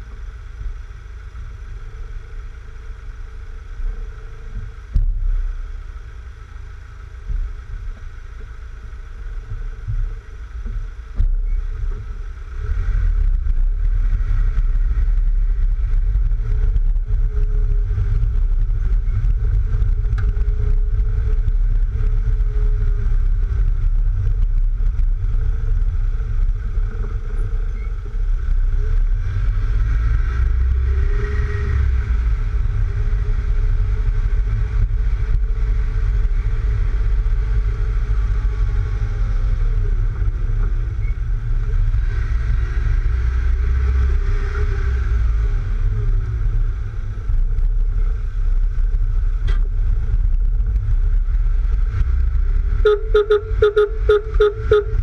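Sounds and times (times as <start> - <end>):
faint car engine: 0.0 - 55.0
road noise: 0.0 - 55.0.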